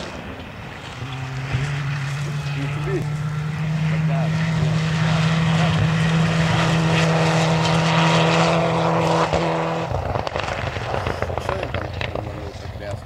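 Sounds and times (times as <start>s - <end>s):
rally car engine at high revs: 0.0s - 12.8s
exhaust crackling: 0.0s - 13.0s.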